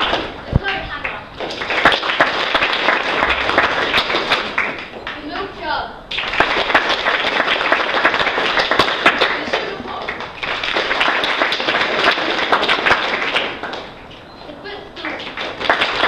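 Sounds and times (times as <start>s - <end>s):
audience applauding: 0.0s - 5.3s, 6.1s - 14.2s, 15.0s - 16.0s.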